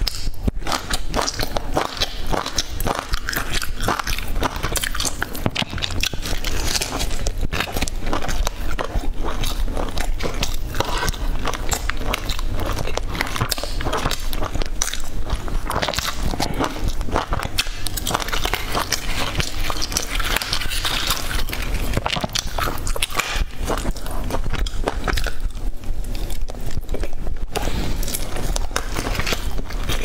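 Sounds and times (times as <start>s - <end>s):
chewing crispy fried food: 0.0s - 30.0s.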